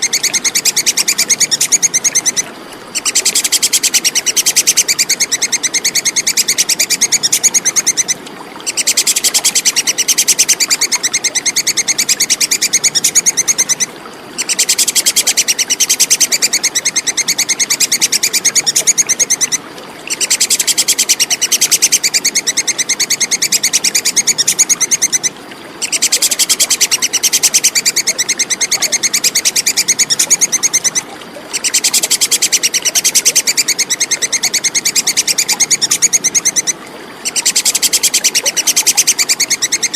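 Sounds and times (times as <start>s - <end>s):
squirrel chattering call: 0.0s - 39.9s.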